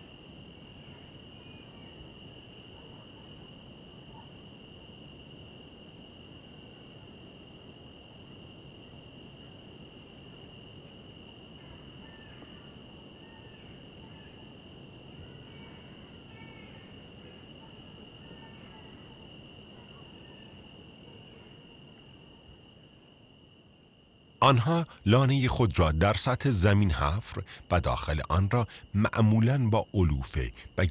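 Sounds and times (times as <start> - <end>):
cricket trill: 0.0 - 30.9
pulsing insect call: 0.0 - 30.9.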